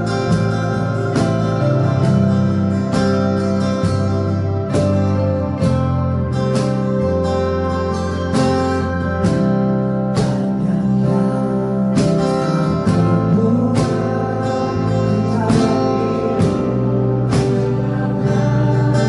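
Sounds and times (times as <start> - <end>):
worship music with acoustic guitar: 0.0 - 19.0.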